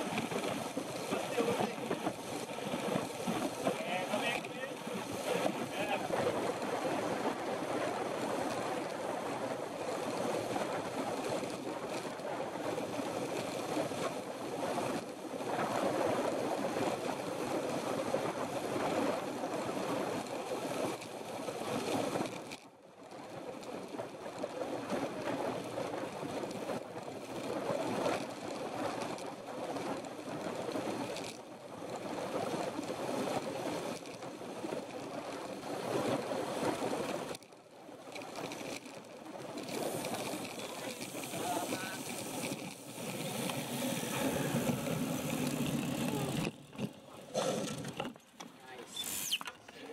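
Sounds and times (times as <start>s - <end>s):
bicycle tyre noise on asphalt: 0.0s - 49.9s.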